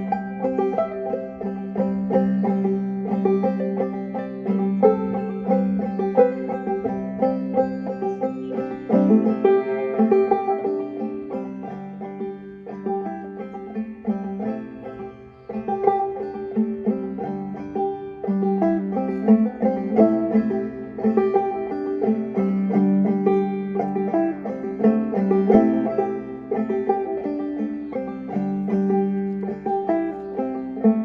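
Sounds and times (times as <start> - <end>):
banjo plucked notes: 0.0 - 31.0.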